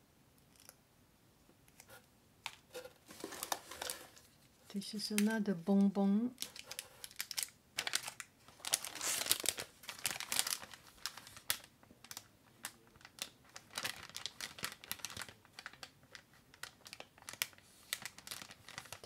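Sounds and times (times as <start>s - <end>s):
plastic bag crinkling: 2.5s - 19.0s.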